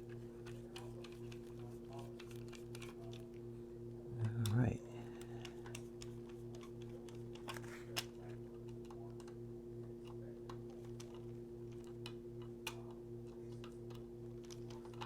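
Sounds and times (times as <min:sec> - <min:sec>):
small clicks and taps: 0:00.0 - 0:03.4, 0:05.2 - 0:09.4, 0:10.0 - 0:15.0
low electrical hum: 0:00.0 - 0:15.0.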